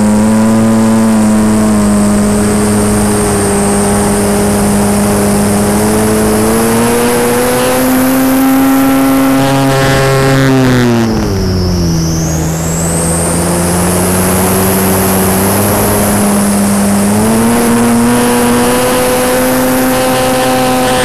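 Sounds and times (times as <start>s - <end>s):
model plane motor drone: 0.0s - 21.0s
thin high whine: 0.0s - 21.0s.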